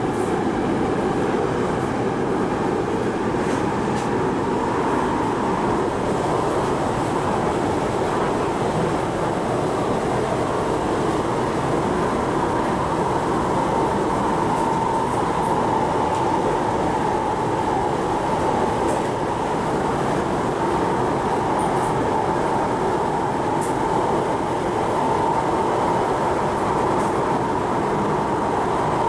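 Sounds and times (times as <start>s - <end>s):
train hum: 0.0s - 29.0s
train running in tunnel: 0.0s - 29.0s.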